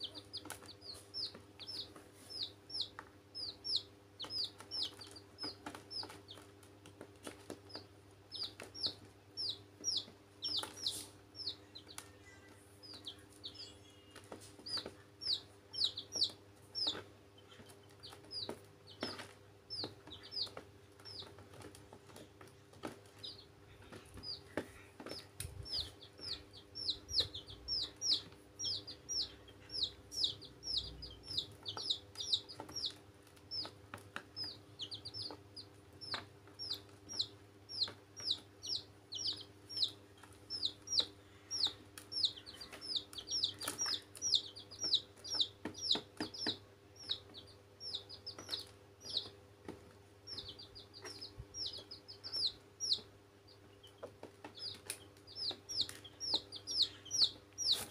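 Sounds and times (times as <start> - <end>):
chicks peeping: 0.0 - 57.9
faint steady hum: 0.0 - 57.9.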